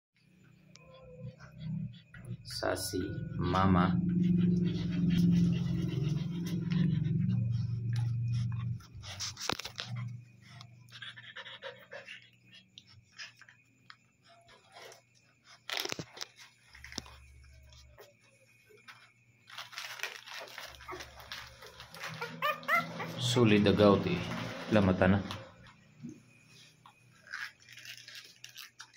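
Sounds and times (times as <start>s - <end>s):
faint puppy noises: 0.2s - 24.7s.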